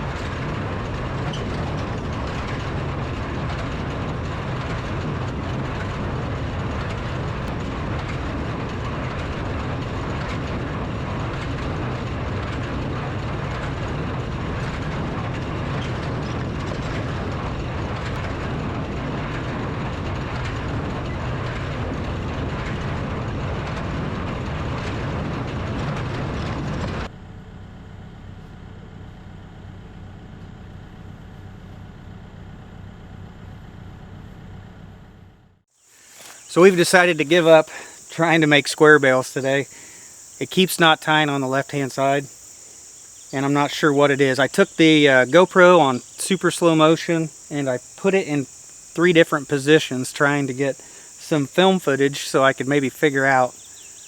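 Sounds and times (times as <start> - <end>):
baler clattering: 0.0 - 27.1, 35.9 - 54.0
tractor engine hum: 0.0 - 54.0.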